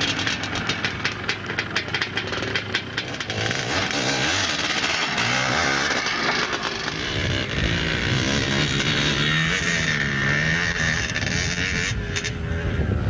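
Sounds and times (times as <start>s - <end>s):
dirt bike engine running: 0.0s - 13.0s
engine crackles: 0.0s - 13.0s.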